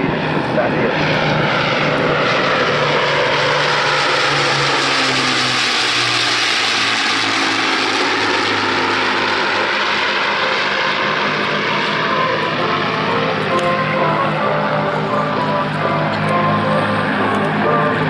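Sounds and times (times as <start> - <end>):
propeller aircraft engines flying past: 0.0 - 18.0.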